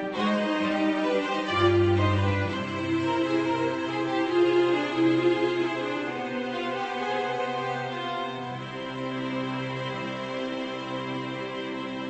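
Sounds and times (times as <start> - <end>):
slow soft string-like music: 0.0 - 12.0.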